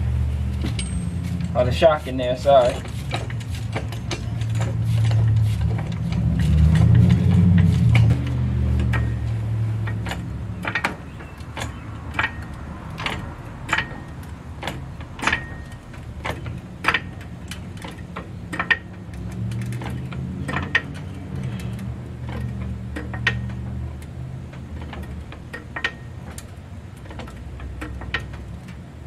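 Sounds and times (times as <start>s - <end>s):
floor jack pumping clicks: 2.6s - 28.8s.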